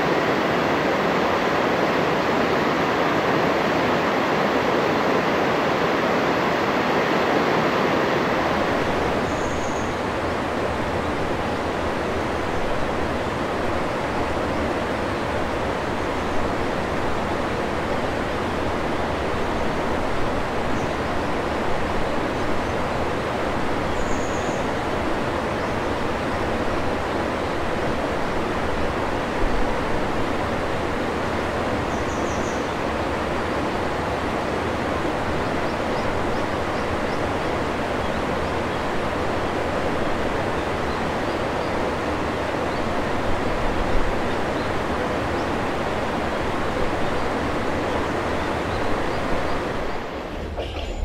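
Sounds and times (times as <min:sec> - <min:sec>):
river water running over rocks: 0:00.0 - 0:51.0.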